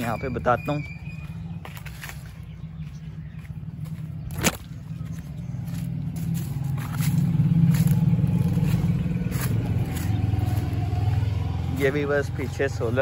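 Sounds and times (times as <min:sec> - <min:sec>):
engine rumbling: 0:00.0 - 0:13.0
footsteps over dry stalks: 0:00.0 - 0:13.0.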